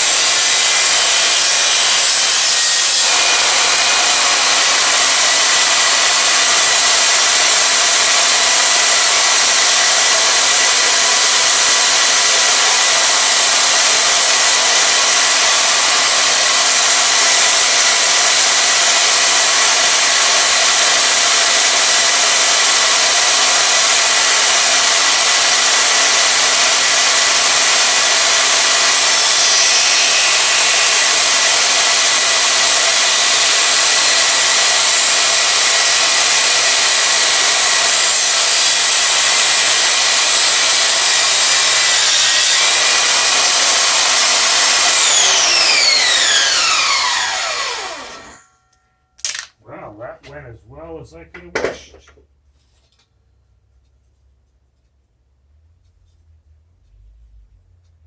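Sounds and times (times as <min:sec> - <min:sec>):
power saw cutting wood: 0:00.0 - 0:48.5.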